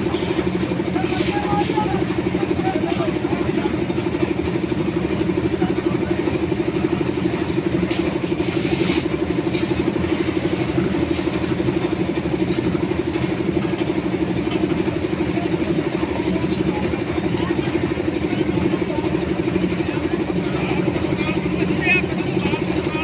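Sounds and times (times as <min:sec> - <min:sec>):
engine chugging: 0:00.0 - 0:23.0.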